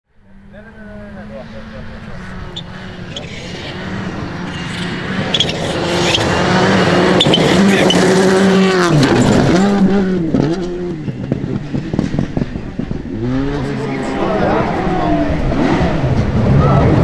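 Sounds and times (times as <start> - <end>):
rally car engine passing: 0.1 - 17.0.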